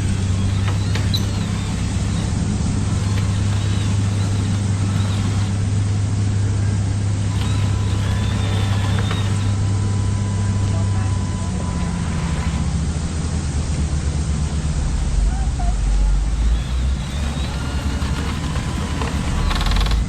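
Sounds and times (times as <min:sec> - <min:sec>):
low engine-like drone: 0:00.0 - 0:20.0.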